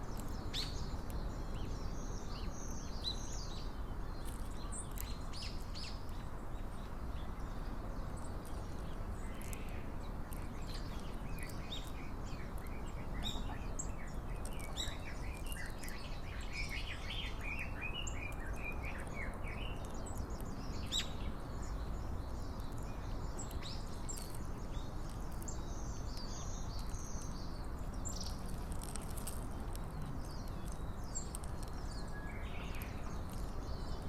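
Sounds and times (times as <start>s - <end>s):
low background noise: 0.0s - 34.0s
small birds chirping: 0.0s - 34.0s.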